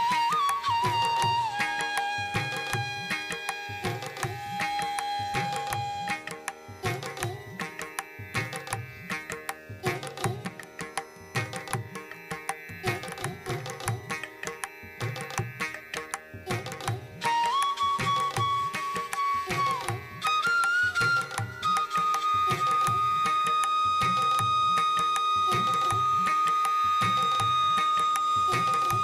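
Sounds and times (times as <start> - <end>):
tabla drumming: 0.0 - 29.0.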